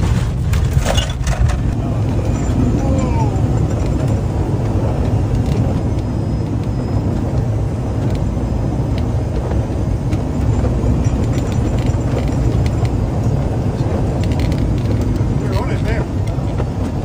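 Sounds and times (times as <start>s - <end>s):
jet cockpit rumble: 0.0s - 17.0s.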